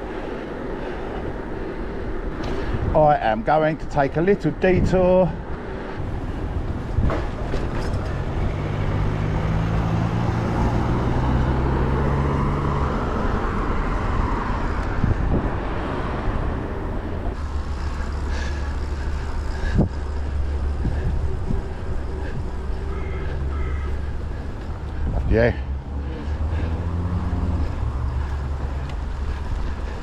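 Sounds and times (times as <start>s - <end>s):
constant rushing noise: 0.0s - 30.0s
road traffic: 0.0s - 30.0s
motor vehicle engine droning: 5.4s - 30.0s.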